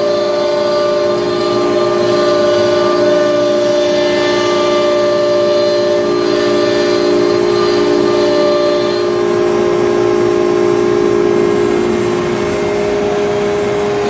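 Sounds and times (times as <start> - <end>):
cnc router whining: 0.0 - 14.0.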